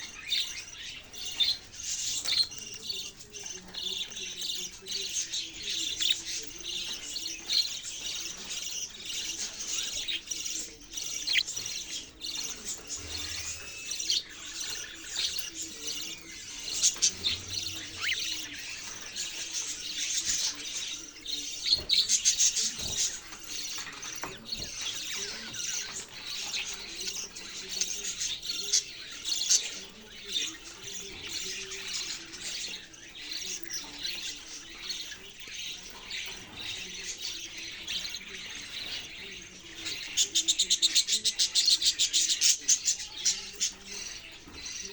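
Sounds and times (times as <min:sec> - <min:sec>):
budgerigars chirping and chattering: 0:00.0 - 0:44.9.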